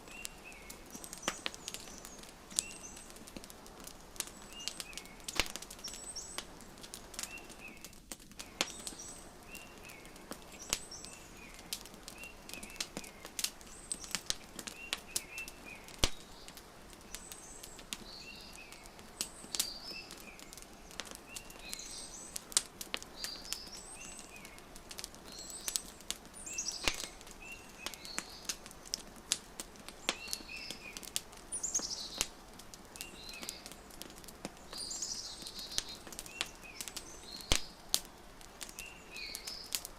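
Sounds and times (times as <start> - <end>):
small birds chirping: 0.0 - 39.9
wood fire crackling and popping: 0.0 - 39.9.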